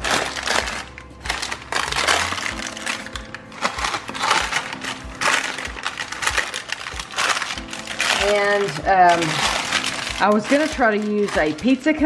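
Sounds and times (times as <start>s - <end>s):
background music with steady beat: 0.0s - 12.0s
parchment paper crinkling: 0.0s - 12.0s.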